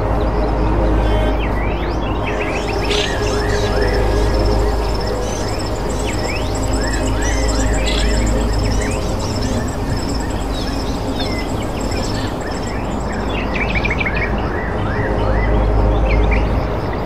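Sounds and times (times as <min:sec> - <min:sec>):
small birds chirping: 0:01.0 - 0:14.8.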